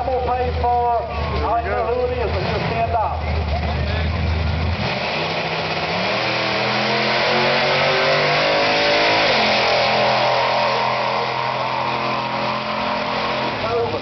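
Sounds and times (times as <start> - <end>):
drag car engines at full throttle: 0.0 - 14.0.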